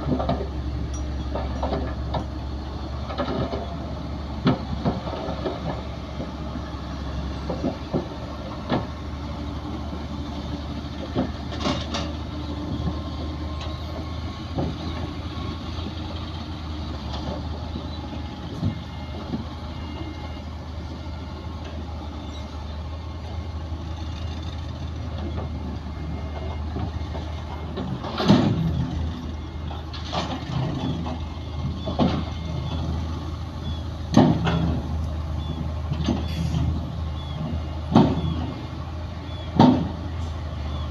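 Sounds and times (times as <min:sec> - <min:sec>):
diesel machinery droning: 0:00.0 - 0:40.9.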